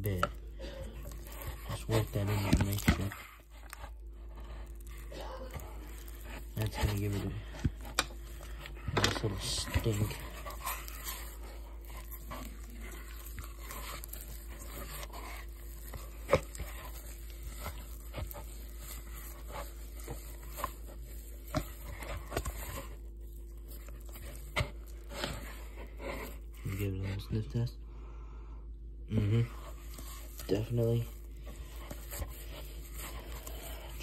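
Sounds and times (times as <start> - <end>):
dough scraping against bowl: 0.0 - 27.7, 29.1 - 34.0
hand kneading sticky dough: 0.0 - 27.8, 29.0 - 34.0.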